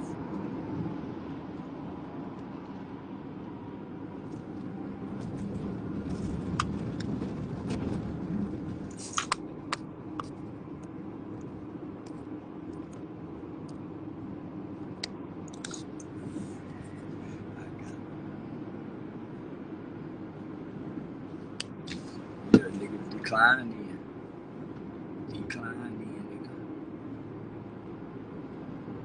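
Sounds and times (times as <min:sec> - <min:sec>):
low hum inside car cabin: 0:00.0 - 0:29.0.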